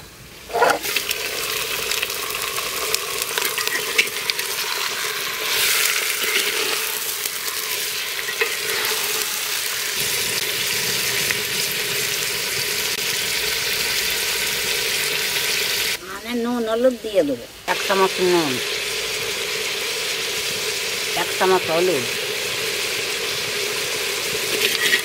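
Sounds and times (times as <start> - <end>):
meat sizzling in hot oil: 0.4 - 16.0, 17.6 - 25.0.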